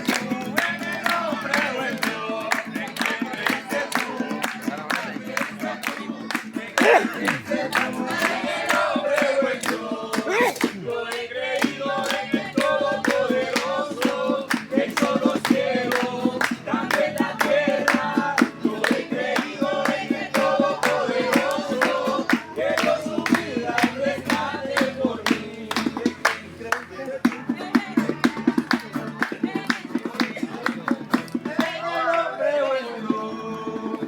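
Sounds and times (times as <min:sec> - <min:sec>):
fast steady beat: 0:00.0 - 0:26.6, 0:27.2 - 0:31.9
group singing praise song: 0:00.0 - 0:34.0.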